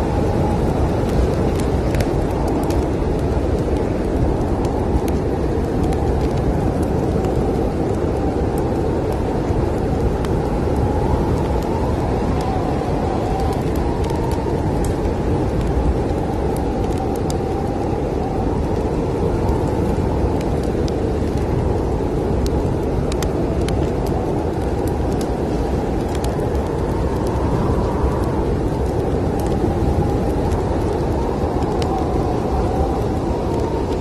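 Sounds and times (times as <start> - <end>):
snowstorm wind whistling: 0.0 - 34.0
wood fire crackling: 0.0 - 34.0.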